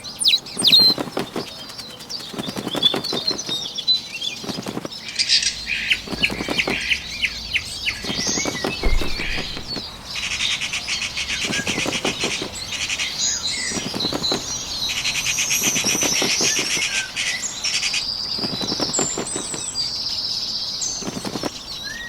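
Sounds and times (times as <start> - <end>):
wings flapping: 0.0 - 9.9, 11.2 - 19.8, 21.0 - 21.8
small birds chirping and trilling: 0.0 - 22.0.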